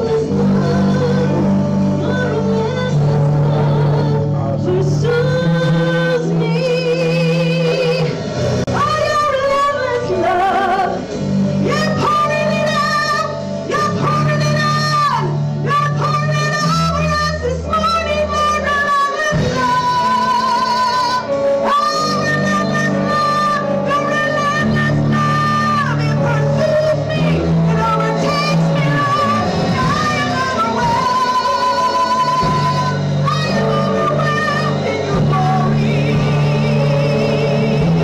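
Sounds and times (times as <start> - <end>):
band playing: 0.0 - 38.0
women singing: 0.0 - 38.0.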